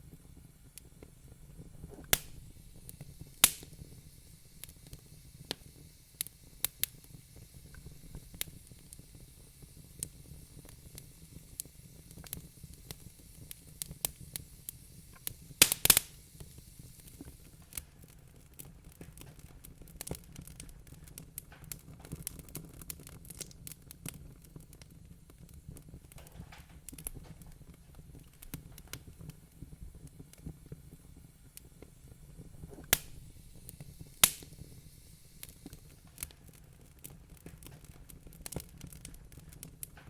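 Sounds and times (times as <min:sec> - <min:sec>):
low steady hiss: 0:00.0 - 0:40.0
wood fire crackling: 0:00.0 - 0:40.0.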